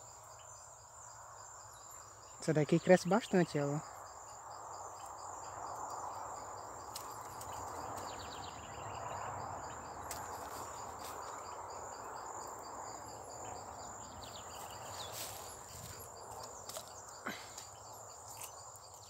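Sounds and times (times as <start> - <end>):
insects buzzing: 0.0 - 19.0
insects chirping rhythmically: 0.0 - 19.0.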